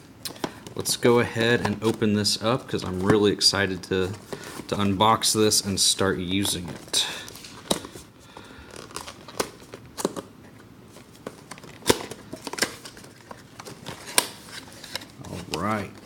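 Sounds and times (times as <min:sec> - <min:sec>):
rustling cardboard and plastic: 0:00.3 - 0:16.0.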